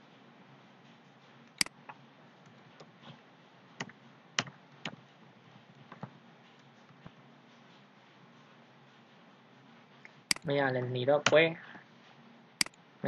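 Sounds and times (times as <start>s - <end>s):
faint room noise: 0.0s - 13.0s.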